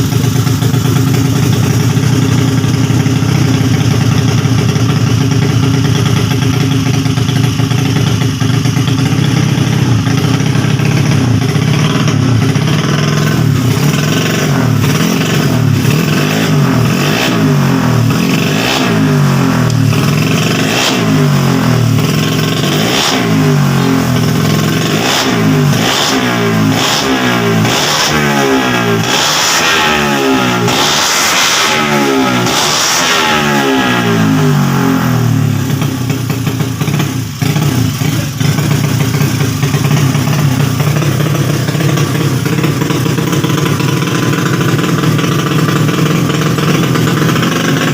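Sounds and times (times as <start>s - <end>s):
scooter engine idling and revving: 0.0s - 47.9s.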